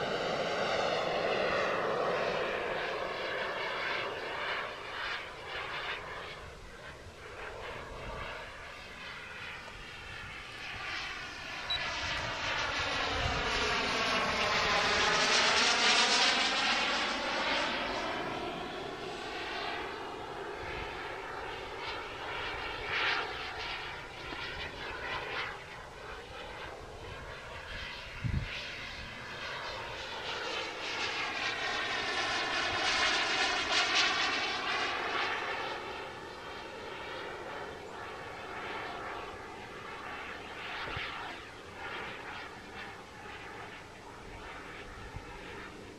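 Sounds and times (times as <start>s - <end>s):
model airplane motor whining: 0.0s - 45.9s.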